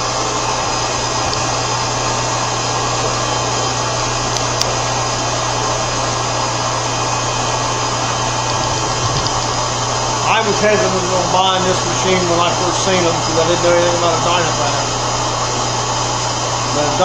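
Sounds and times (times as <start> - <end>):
machining center hissing and humming: 0.0 - 17.0.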